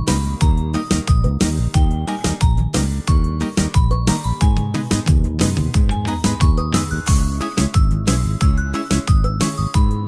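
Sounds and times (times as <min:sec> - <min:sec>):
upbeat music with plucked melody: 0:00.0 - 0:10.0.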